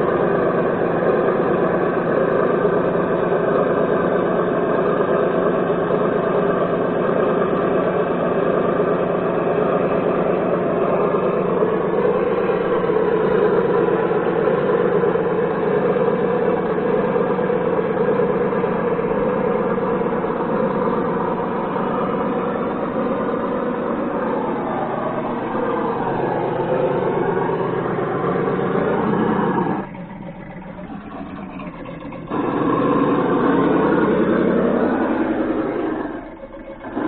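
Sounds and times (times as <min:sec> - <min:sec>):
simulated engine note from speaker: 0:00.0 - 0:37.0.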